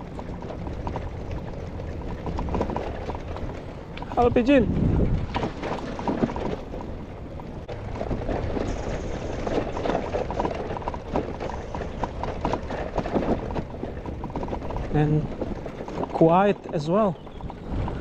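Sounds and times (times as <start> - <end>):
bicycle rattles and clicks: 0.0 - 18.0
bicycle tyres rolling on pavement: 0.0 - 18.0
steady low rumble: 0.0 - 18.0.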